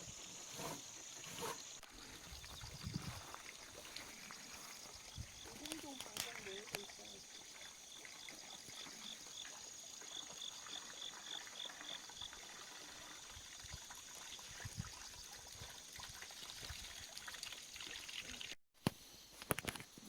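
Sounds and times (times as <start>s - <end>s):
trickle of running water: 0.1s - 18.6s.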